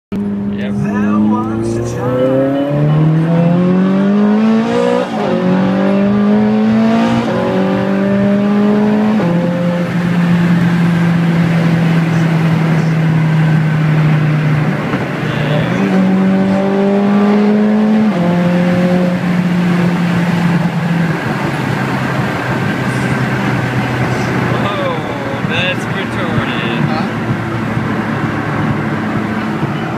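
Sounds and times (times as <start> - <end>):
car engine revving through shifts: 0.2 - 29.9.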